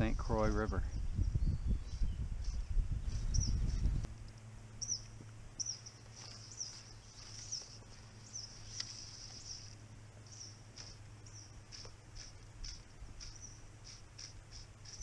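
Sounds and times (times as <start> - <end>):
wind rumbling on microphone: 0.0 - 4.2, 4.8 - 15.0
faint low hum: 0.0 - 15.0
small birds chirping: 0.4 - 15.0.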